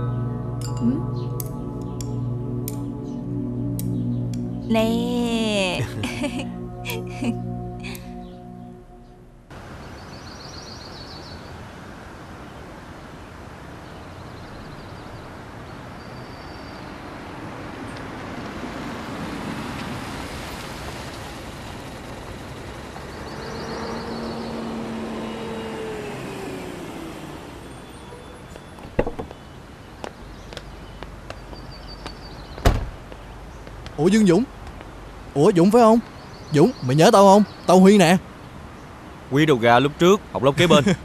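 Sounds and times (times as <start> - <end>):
hum of passing vehicles: 0.0 - 41.0.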